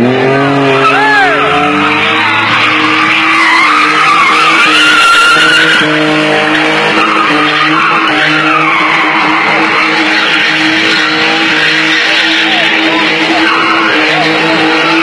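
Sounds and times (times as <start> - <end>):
car engine: 0.0 - 15.0
tyres squealing: 0.7 - 15.0.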